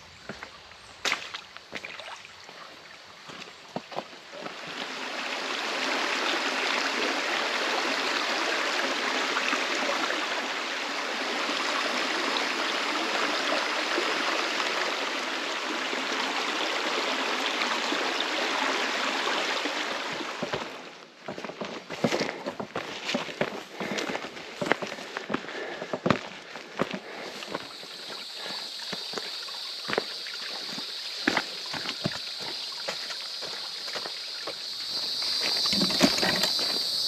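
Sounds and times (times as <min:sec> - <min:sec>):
creek water rushing and splashing: 0:00.0 - 0:37.0.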